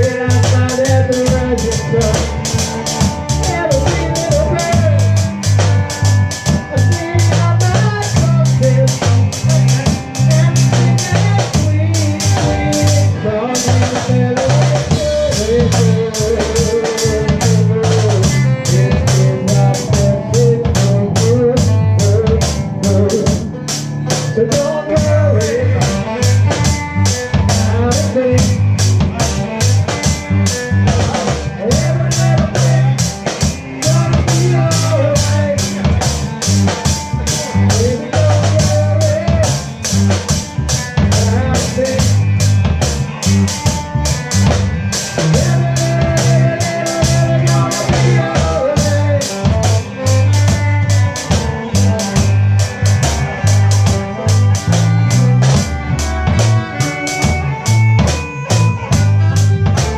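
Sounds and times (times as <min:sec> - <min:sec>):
drum kit beat: 0:00.0 - 0:59.9
live reggae band: 0:00.0 - 0:59.9
pulsing bass line: 0:00.0 - 0:59.9
wavering lead melody: 0:00.0 - 0:59.9.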